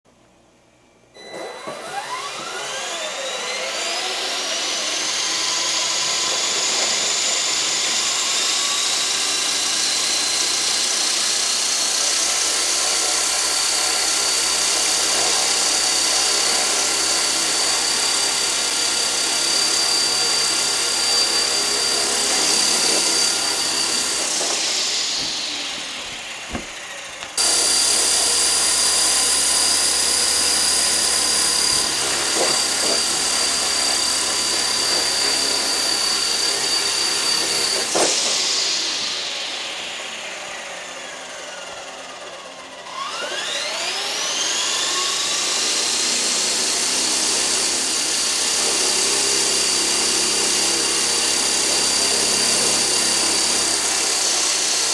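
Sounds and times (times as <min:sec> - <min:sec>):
rc helicopter motor whine: 0:01.3 - 0:54.9.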